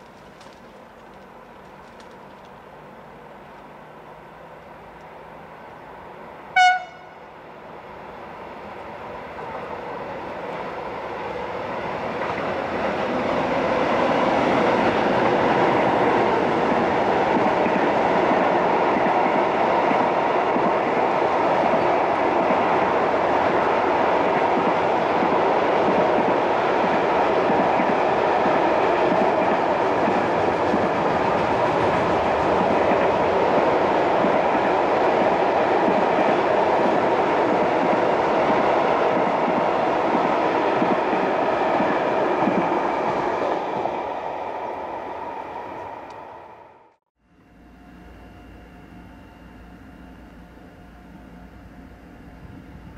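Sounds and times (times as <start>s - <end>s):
train wheels rolling on track: 0.0s - 47.0s.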